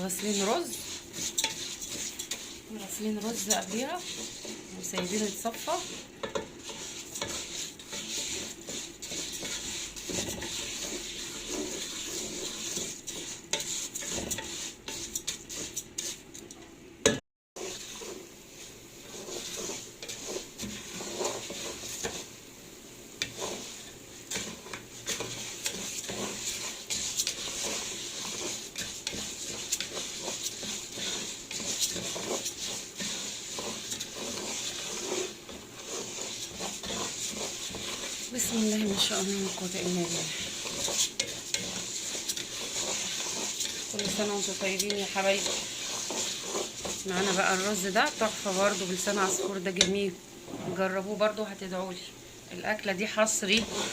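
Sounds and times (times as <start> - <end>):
light sizzle: 0.0 - 53.9.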